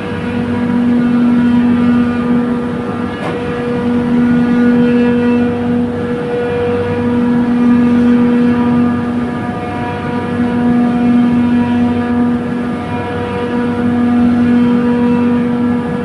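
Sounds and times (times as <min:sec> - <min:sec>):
chiller compressor humming: 0:00.0 - 0:16.0.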